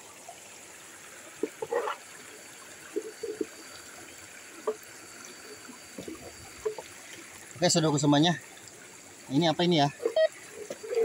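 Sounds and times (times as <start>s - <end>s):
stream trickling and gurgling: 0.0s - 11.0s.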